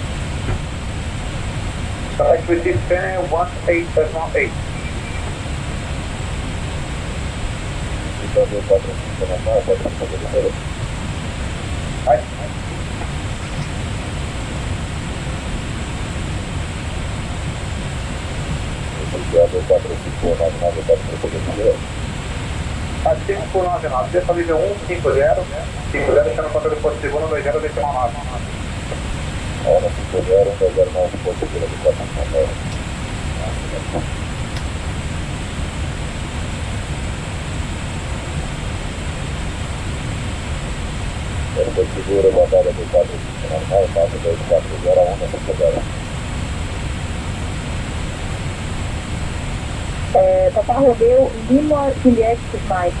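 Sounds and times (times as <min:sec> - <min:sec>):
aircraft engine rumble: 0:00.0 - 0:53.0
faint high whine: 0:00.0 - 0:53.0.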